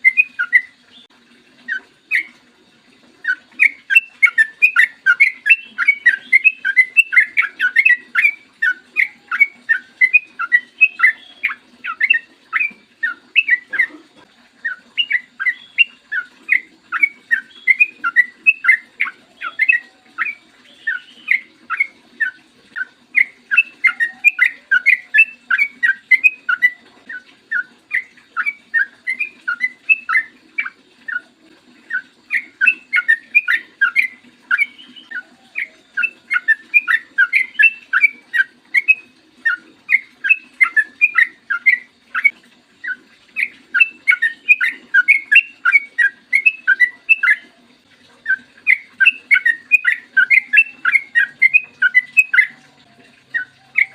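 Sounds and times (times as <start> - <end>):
bulbul singing: 0.0 - 2.4, 3.2 - 47.6, 48.2 - 53.9.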